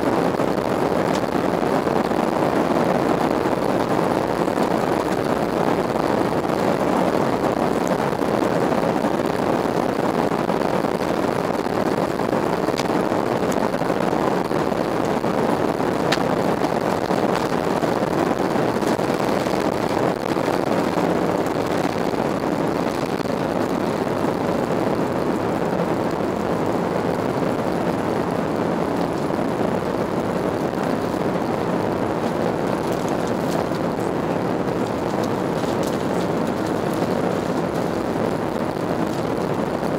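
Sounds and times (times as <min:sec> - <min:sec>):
jet engines rushing from cabin: 0:00.0 - 0:39.9.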